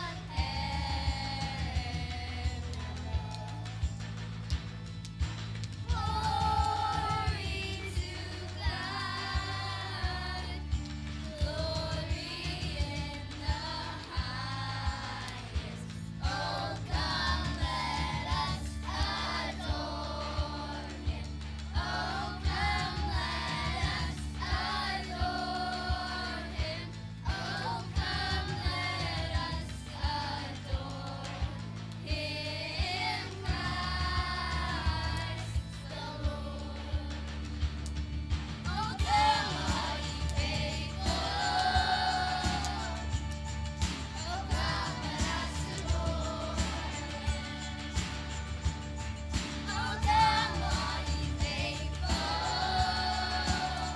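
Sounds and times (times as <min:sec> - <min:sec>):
voices singing: 0:00.0 - 0:04.6, 0:05.2 - 0:53.9
steady beat and bass: 0:00.0 - 0:53.9.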